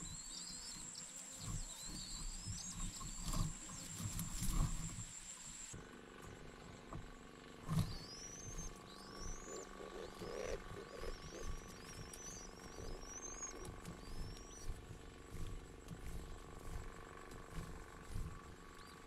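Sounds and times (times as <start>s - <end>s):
soft patters at nest: 0.0s - 19.0s.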